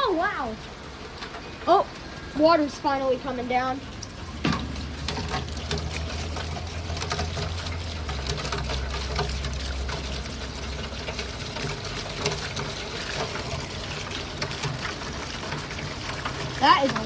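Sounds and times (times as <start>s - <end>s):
low hum: 0.0s - 16.4s
heavy rain pouring: 0.0s - 17.0s.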